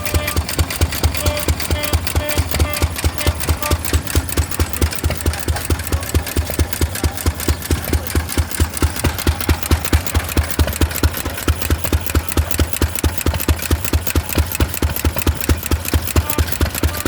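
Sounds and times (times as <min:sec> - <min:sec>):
old gas engine running: 0:00.0 - 0:17.0.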